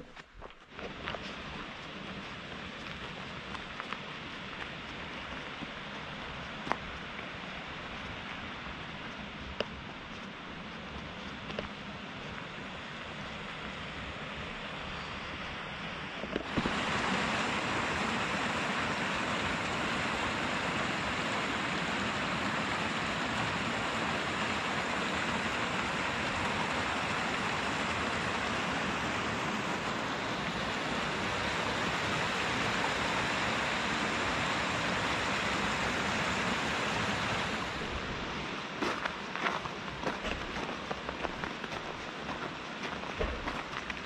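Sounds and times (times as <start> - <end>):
stream rushing over stones: 0.0 - 44.0.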